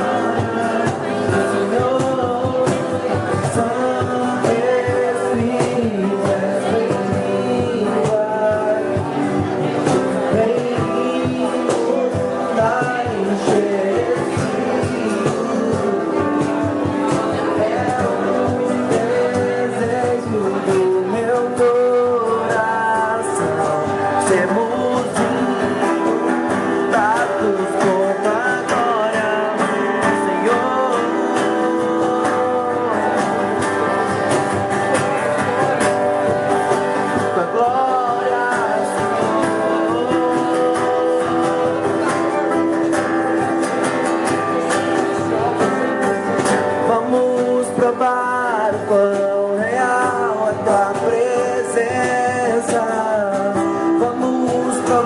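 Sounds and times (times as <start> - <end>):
guitar accompaniment: 0.0 - 55.0
person singing: 0.0 - 55.0.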